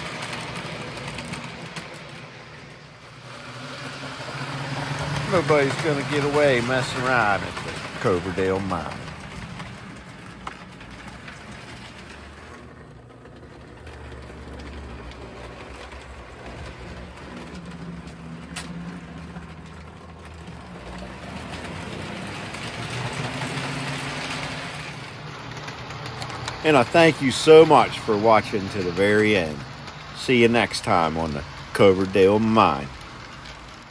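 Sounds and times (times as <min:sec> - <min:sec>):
locomotive motor hum: 0:00.0 - 0:33.9
model train wheels rumbling on track: 0:00.0 - 0:33.9.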